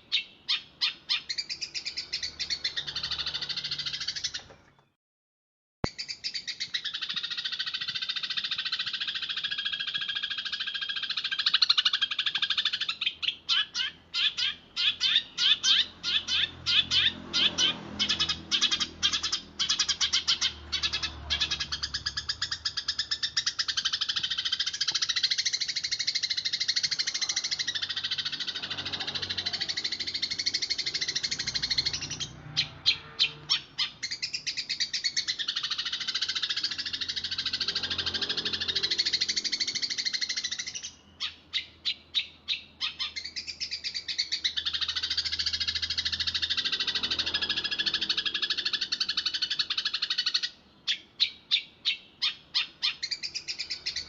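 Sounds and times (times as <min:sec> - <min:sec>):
sparrow chirping rapidly: 0:00.0 - 0:04.5, 0:05.8 - 0:54.0.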